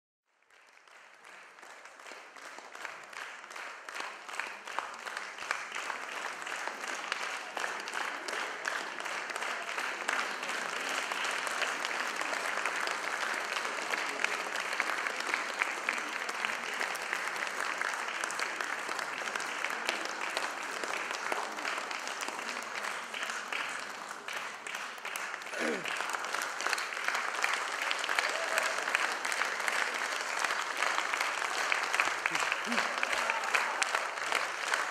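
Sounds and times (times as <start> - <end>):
audience applauding: 0.4 - 34.9.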